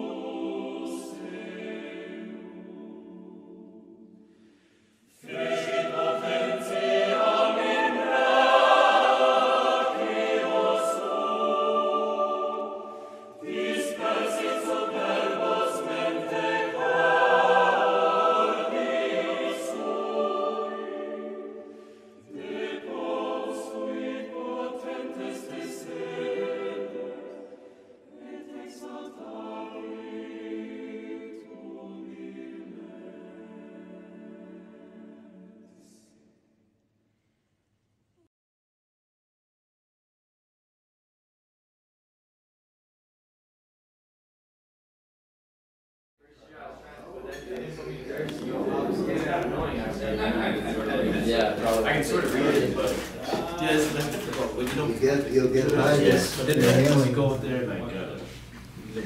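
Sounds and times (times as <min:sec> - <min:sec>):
choir singing: 0:00.0 - 0:36.5, 0:46.5 - 0:58.3.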